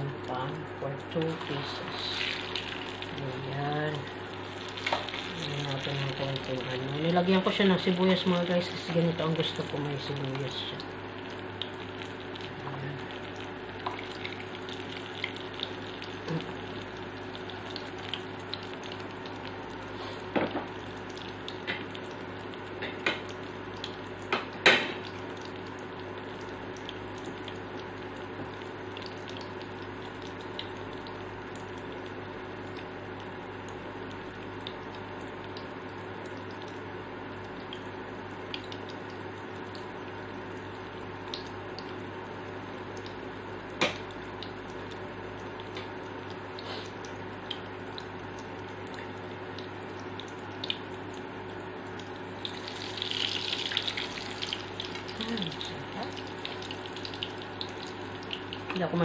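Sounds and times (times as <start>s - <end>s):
omelette sizzling in oil: 1.0s - 59.0s.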